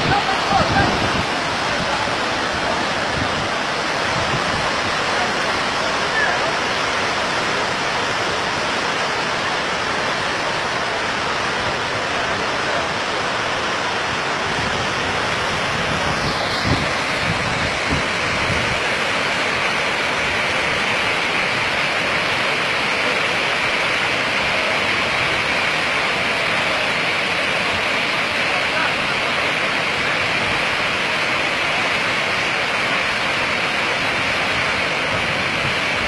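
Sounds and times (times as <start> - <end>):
floodwater rushing: 0.0 - 36.0.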